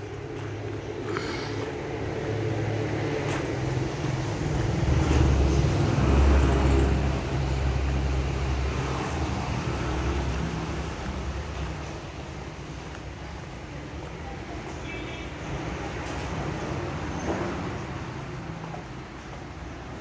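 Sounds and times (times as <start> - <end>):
motor vehicle engine rumble: 0.0 - 20.0.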